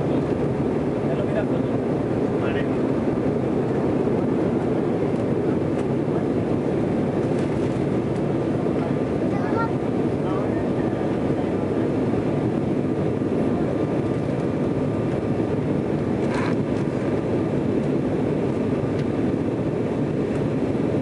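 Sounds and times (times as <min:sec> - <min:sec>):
airliner cabin engine roar: 0:00.0 - 0:21.0.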